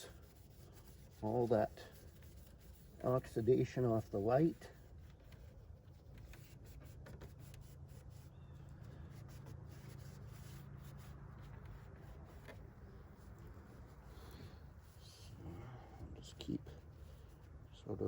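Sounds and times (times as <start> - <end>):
hand scrubbing plastic lens: 0.0 - 15.3.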